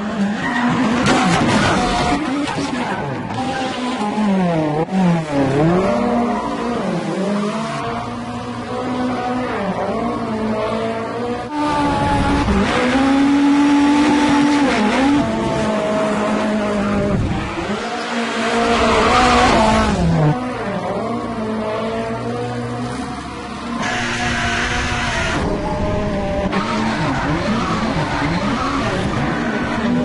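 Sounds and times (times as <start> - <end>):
car engine revving hard: 0.7 - 30.0.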